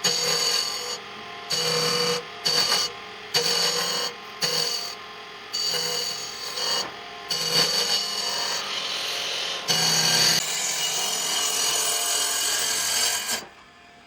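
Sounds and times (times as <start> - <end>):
power tool whining through wood: 0.0 - 14.0.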